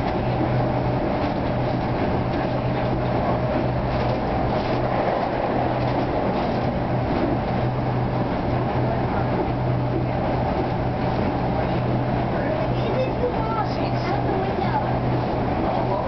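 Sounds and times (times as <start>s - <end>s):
tram rumbling along guideway: 0.0s - 16.0s.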